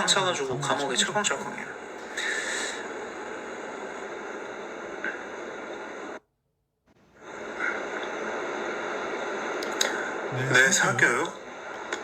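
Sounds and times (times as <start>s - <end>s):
microphone hiss and static: 0.0s - 6.3s, 6.9s - 12.0s.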